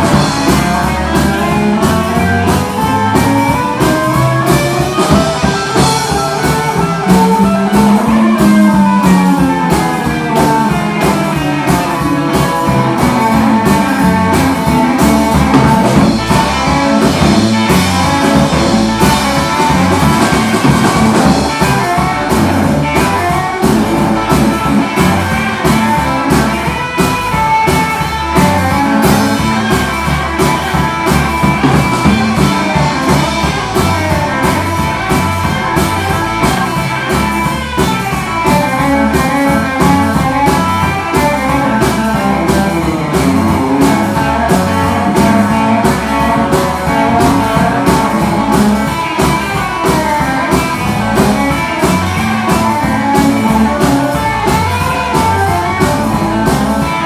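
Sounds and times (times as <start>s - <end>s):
electric guitar: 0.0s - 57.0s
steady drum beat: 0.0s - 57.0s.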